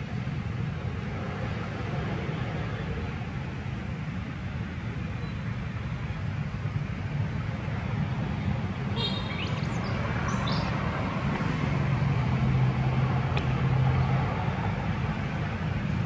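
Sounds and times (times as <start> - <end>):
motor vehicle rumbling: 0.0 - 16.0.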